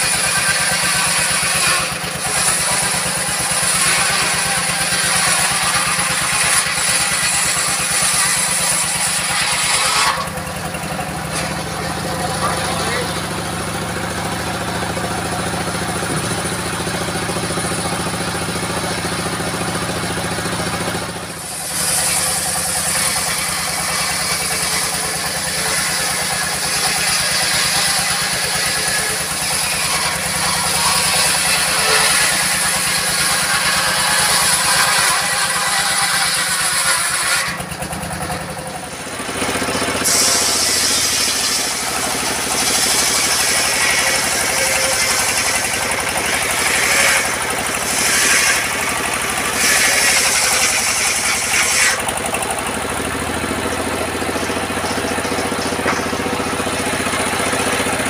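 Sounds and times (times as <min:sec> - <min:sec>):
circular saw cutting logs: 0:00.0 - 0:58.0
diesel engine running: 0:00.0 - 0:58.0.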